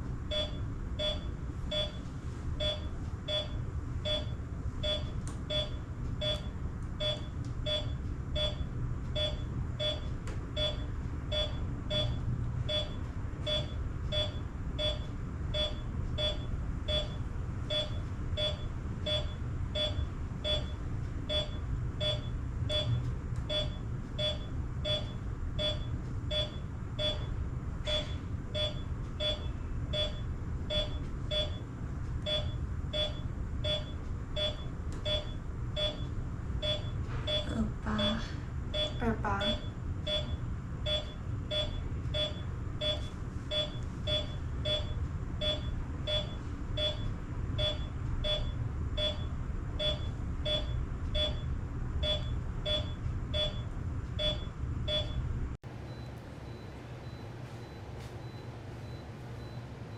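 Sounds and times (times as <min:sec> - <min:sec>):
patient monitor beeping: 0:00.3 - 0:55.2, 0:55.8 - 0:59.9.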